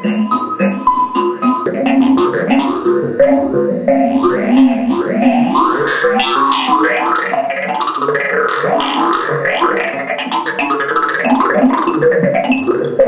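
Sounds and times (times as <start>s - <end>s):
synthesizer playing rapid notes: 0.0s - 13.0s.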